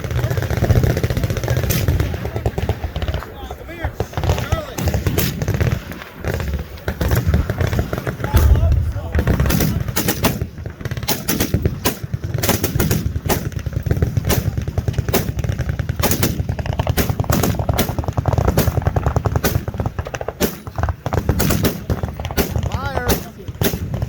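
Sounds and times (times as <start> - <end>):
machine guns firing: 0.0 - 24.0.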